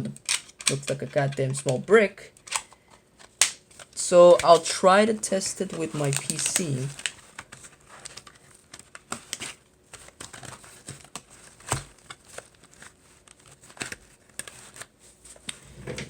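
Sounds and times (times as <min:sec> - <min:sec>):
handling clicks and rustling: 0:00.2 - 0:16.0.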